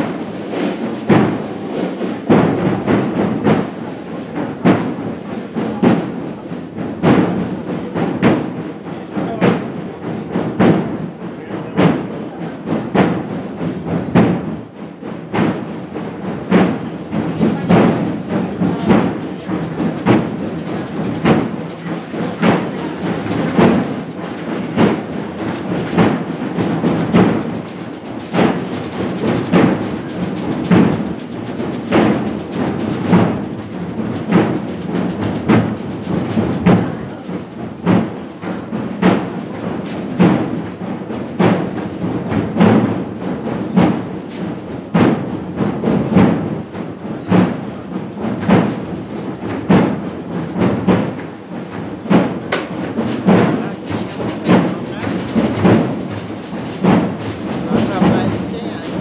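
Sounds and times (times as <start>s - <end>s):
drums beating a slow march: 0.0s - 59.0s.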